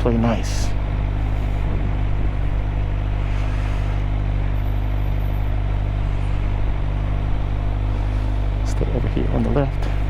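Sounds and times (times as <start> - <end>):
motorcycle engine running steadily: 0.0 - 10.0.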